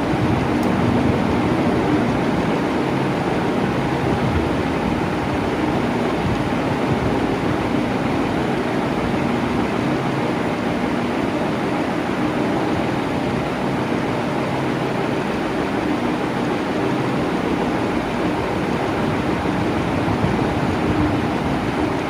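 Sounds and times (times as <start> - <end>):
electric fan whoosh: 0.0 - 22.0
faint motor hum: 0.0 - 22.0.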